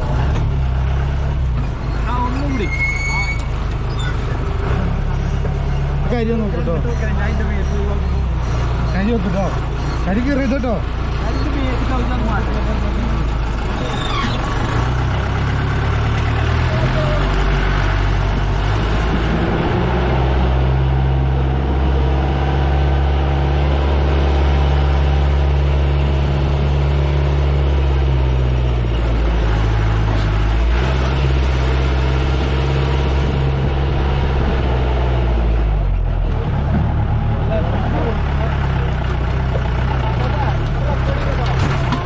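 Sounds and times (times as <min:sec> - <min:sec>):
jeep engine running: 0:00.0 - 0:42.0.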